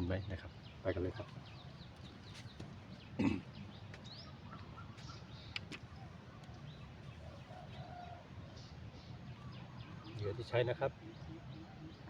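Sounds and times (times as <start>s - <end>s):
birds chirping: 0.0s - 12.0s
faint outdoor background: 0.0s - 12.0s.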